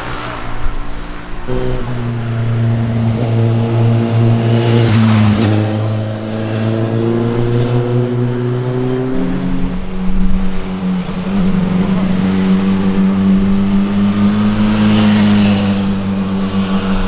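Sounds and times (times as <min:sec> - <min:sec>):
motorcycle passing by: 0:00.0 - 0:17.0.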